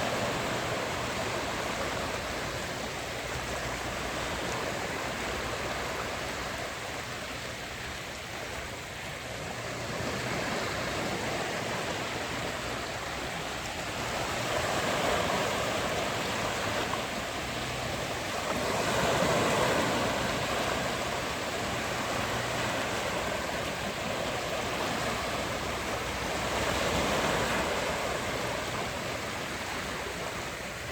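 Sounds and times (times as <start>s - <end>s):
sea waves breaking on beach: 0.0s - 30.9s.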